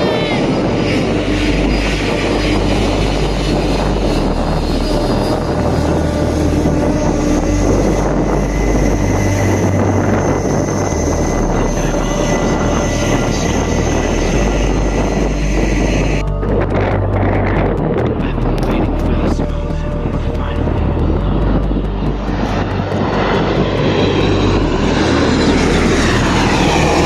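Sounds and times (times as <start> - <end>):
high-pitched engine whines: 0.0 - 27.0
jet engines rumbling: 0.0 - 27.0.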